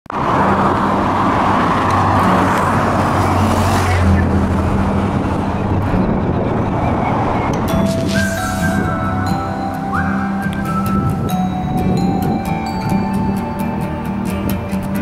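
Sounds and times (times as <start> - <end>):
cars driving past: 0.1 - 15.0.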